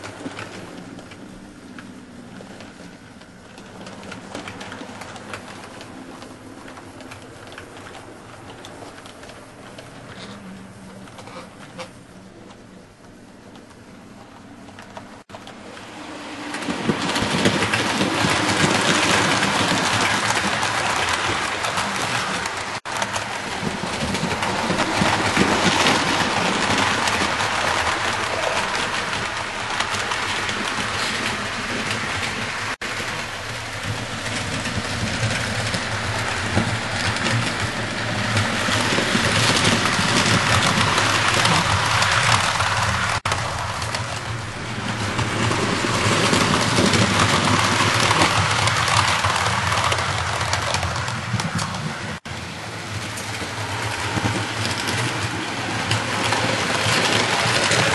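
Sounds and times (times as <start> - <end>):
model trains whirring on rails: 0.0 - 57.9.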